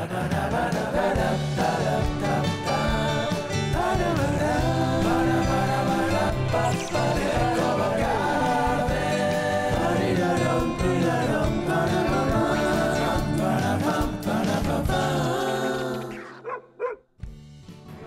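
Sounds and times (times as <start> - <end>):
tv theme music: 0.0 - 16.3
voices singing: 0.0 - 16.6.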